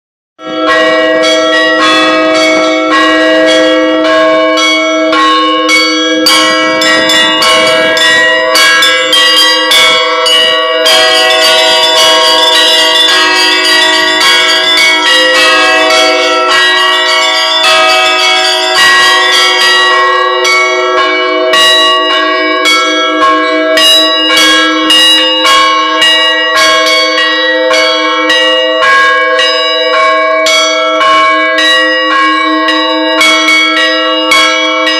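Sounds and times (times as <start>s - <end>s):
bells ringing: 0.4s - 34.9s.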